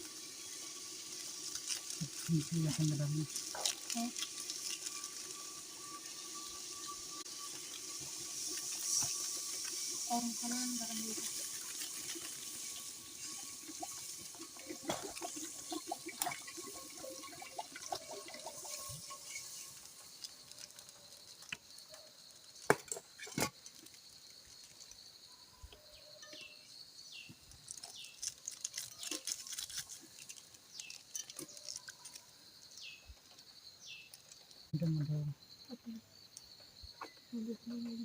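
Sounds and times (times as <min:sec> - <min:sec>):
spices sizzling in hot oil: 0:00.0 - 0:34.7.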